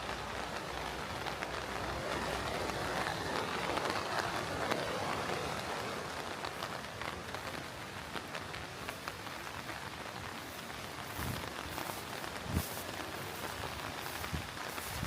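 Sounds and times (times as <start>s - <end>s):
rain falling: 0.0s - 15.0s
raindrops ticking close by: 0.0s - 15.0s.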